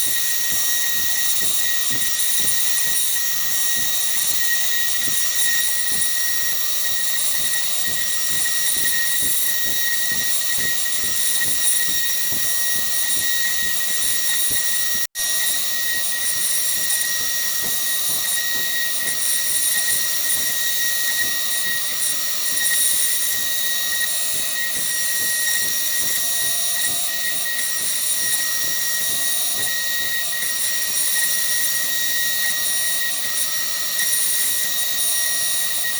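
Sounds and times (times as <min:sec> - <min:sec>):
router spindle high whine: 0:00.0 - 0:35.9.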